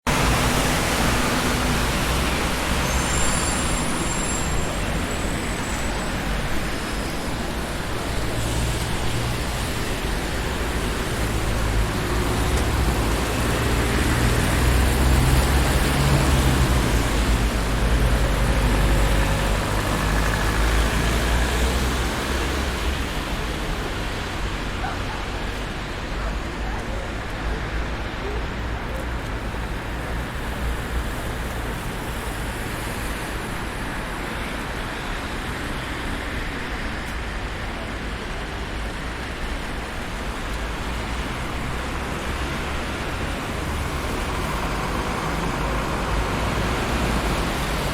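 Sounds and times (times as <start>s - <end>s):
passing cars: 0.1s - 47.9s.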